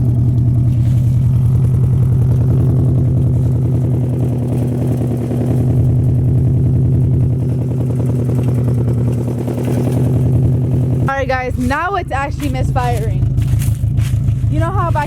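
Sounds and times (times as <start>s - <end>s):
engine idling roughly misfiring: 0.0s - 15.0s.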